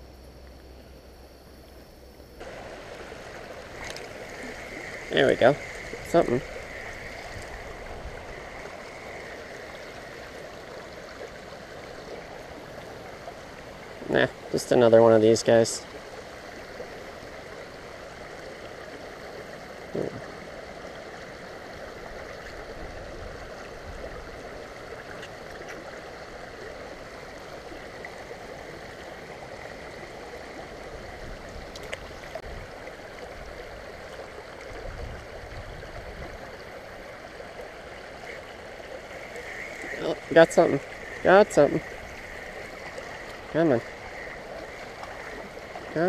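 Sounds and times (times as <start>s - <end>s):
creek water running over riffle: 1.5s - 46.0s.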